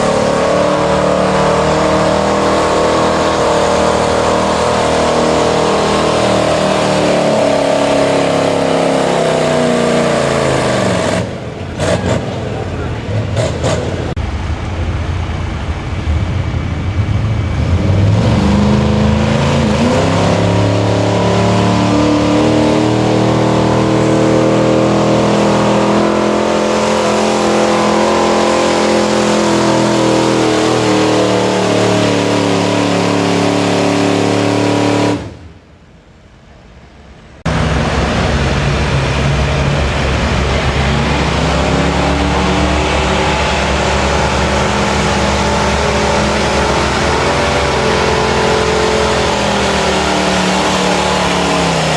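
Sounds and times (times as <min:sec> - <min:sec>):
truck engine at full throttle: 0:00.0 - 0:35.8, 0:37.4 - 0:51.9.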